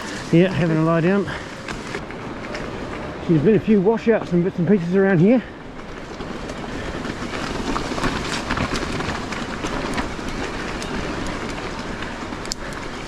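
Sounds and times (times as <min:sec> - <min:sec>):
bike rattling with small clicks: 0:00.0 - 0:13.0
tyres crunching on loose stones: 0:00.0 - 0:13.0.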